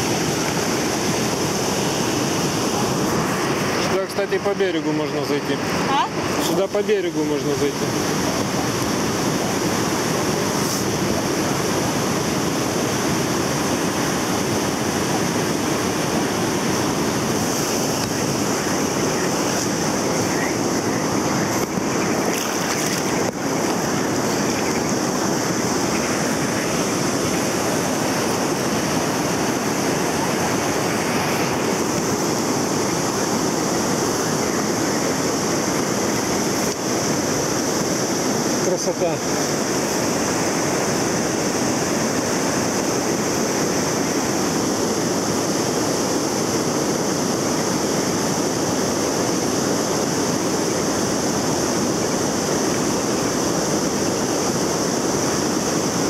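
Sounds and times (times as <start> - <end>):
river rapids rushing: 0.0 - 56.0.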